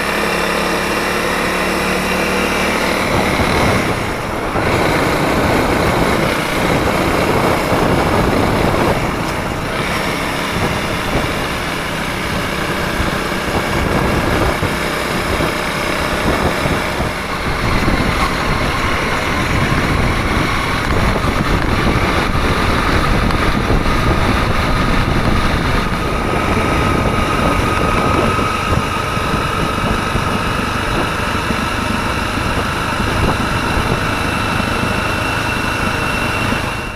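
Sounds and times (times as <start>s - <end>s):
motorcycle engine exhaust: 0.0s - 36.9s.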